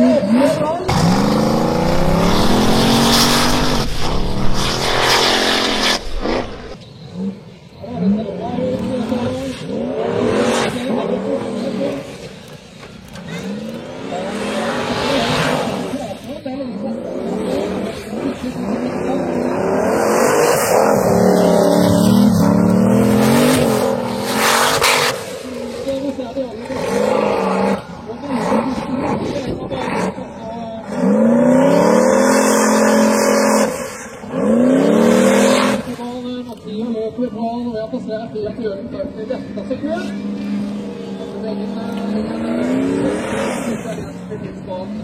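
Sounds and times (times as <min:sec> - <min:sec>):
racing car engine accelerating: 0:00.0 - 0:36.2, 0:39.0 - 0:45.0.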